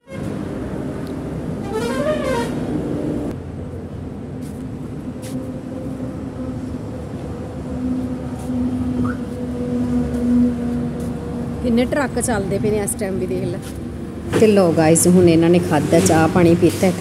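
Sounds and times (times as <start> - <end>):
highway traffic drone: 0.0 - 17.0
truck passing: 0.0 - 17.0.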